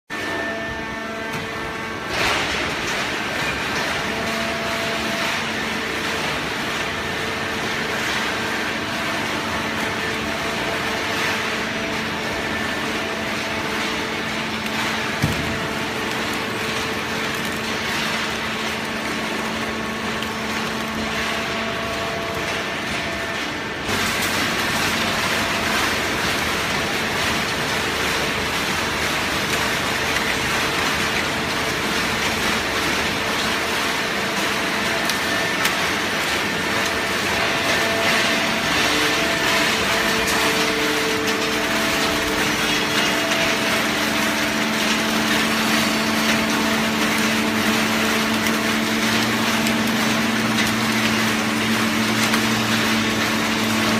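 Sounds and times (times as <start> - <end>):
motor and pump hum: 0.0 - 53.9
industrial machine drone: 0.1 - 53.9.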